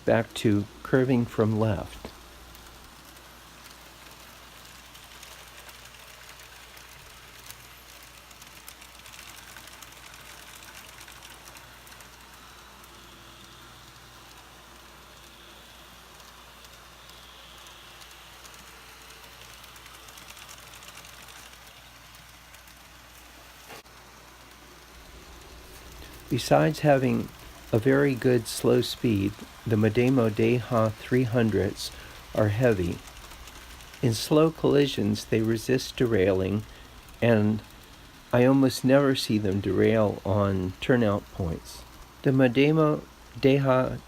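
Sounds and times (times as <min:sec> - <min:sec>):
model train motors whirring: 0:00.0 - 0:44.0
wheels clicking over points: 0:00.0 - 0:44.0.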